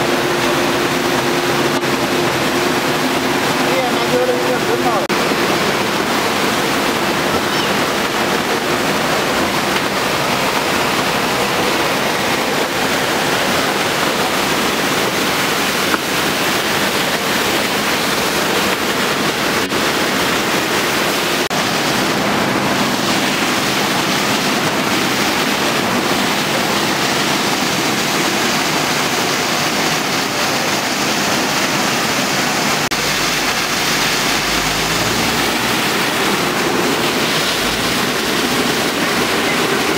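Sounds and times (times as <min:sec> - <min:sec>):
flood water rushing torrent: 0:00.0 - 0:39.9.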